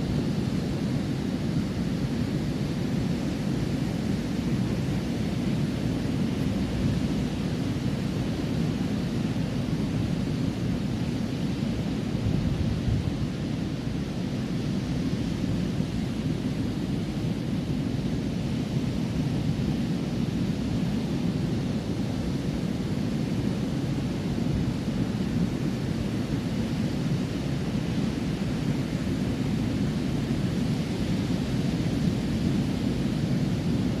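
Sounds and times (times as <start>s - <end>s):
waves breaking on beach: 0.0s - 34.0s.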